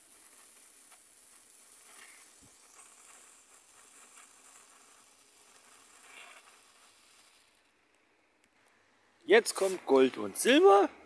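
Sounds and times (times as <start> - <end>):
firework spraying sparks hiss: 0.0 - 11.0.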